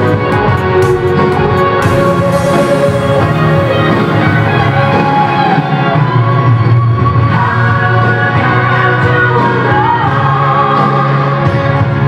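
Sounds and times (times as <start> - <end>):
music with held notes: 0.0 - 12.0.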